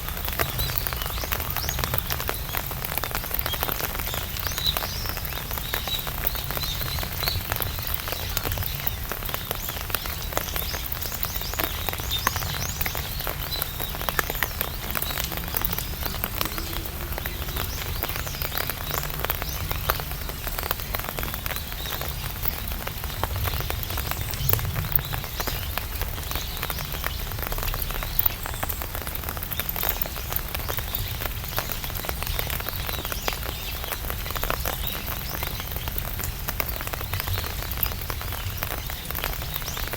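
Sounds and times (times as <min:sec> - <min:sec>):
rain tapping on umbrella: 0:00.0 - 0:39.9.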